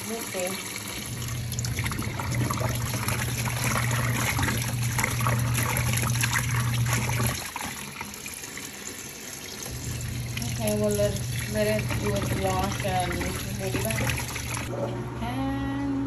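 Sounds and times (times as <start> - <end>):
water churning in a tub: 0.0 - 14.8
washing machine motor hum: 0.0 - 16.0.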